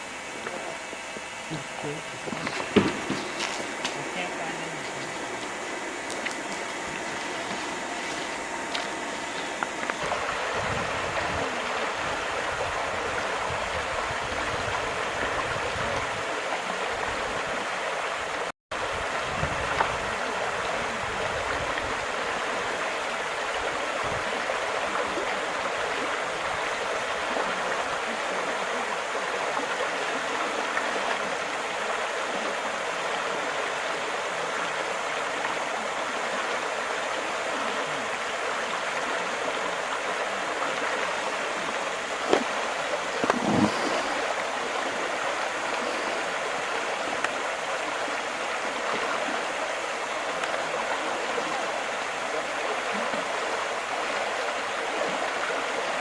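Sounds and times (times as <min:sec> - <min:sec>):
rushing flowing water: 0:00.0 - 0:56.0.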